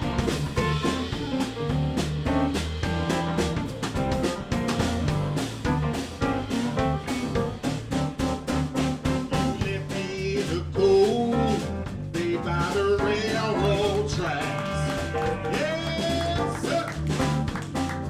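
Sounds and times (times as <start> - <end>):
blues band playing: 0.0 - 18.0
drum beat: 0.0 - 18.0.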